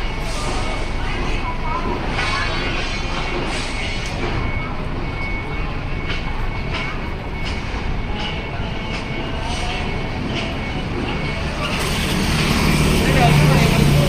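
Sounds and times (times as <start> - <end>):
large vehicle engine running: 0.0 - 14.0
street traffic: 0.0 - 14.0.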